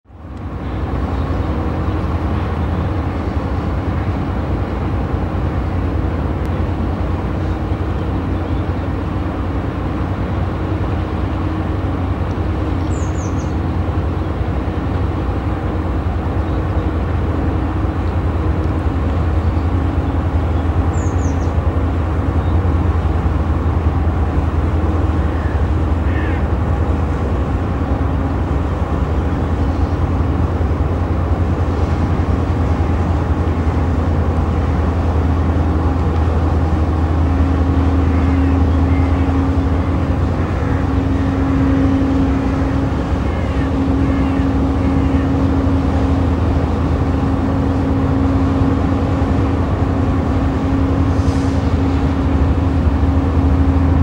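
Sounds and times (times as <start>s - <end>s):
boat diesel engine drone: 0.0s - 54.0s.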